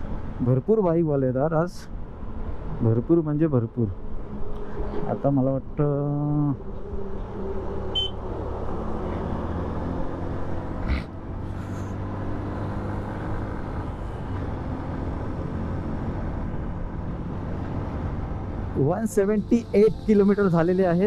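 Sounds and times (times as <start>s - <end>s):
road and wind rumble: 0.0s - 21.0s.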